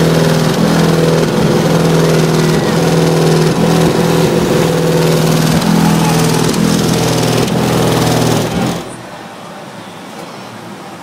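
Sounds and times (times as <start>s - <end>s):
loud subwoofer bass notes: 0.0s - 9.2s.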